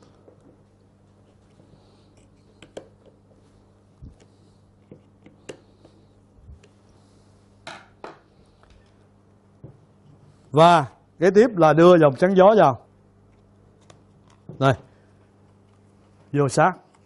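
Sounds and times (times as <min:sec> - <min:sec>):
steady low electrical hum: 0:00.0 - 0:17.0.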